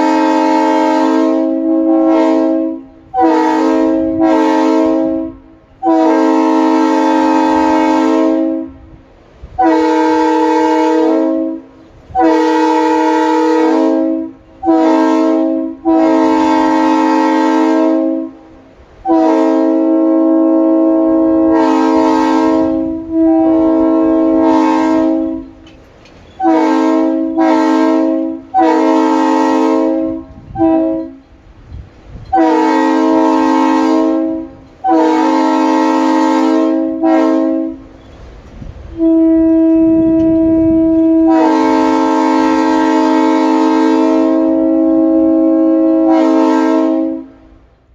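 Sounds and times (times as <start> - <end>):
locomotive air horn blasts: 0.0 - 25.6, 26.4 - 31.3, 32.3 - 38.0, 38.9 - 47.6.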